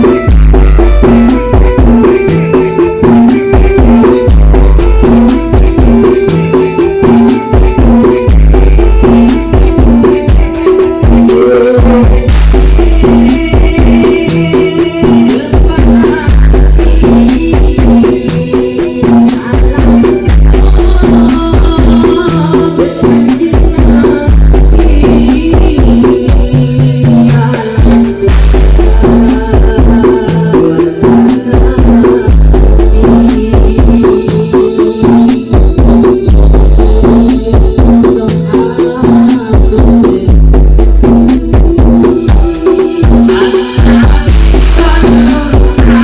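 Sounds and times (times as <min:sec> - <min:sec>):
deep bass notes: 0:00.0 - 0:46.0
loud dance music: 0:00.0 - 0:46.0
rattling percussion: 0:00.0 - 0:46.0.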